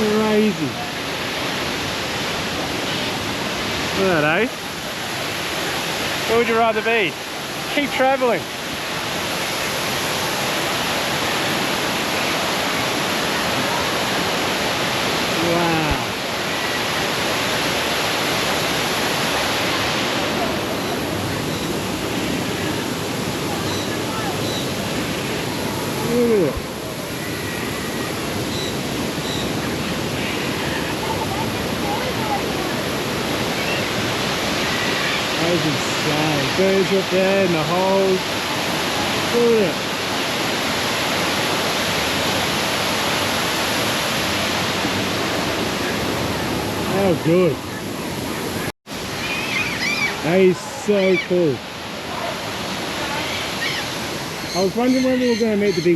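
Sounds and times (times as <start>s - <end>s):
waterfall rushing into pool: 0.0s - 55.9s.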